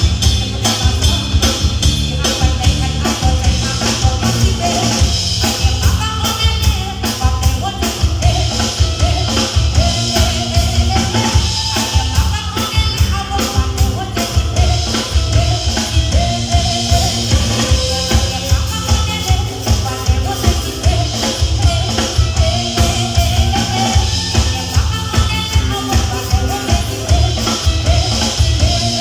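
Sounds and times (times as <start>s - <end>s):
bass line: 0.0s - 29.0s
drum kit: 0.0s - 29.0s
person singing: 0.0s - 29.0s.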